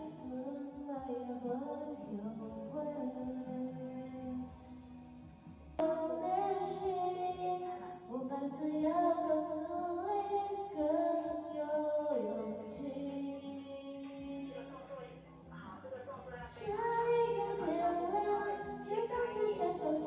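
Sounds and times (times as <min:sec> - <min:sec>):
slow melodic song: 0:00.0 - 0:15.9, 0:16.5 - 0:20.0.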